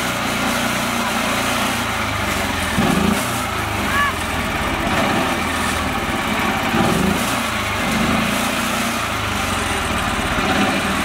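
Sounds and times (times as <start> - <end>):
churning through mud: 0.0 - 11.0
small engine running under load: 0.0 - 11.0.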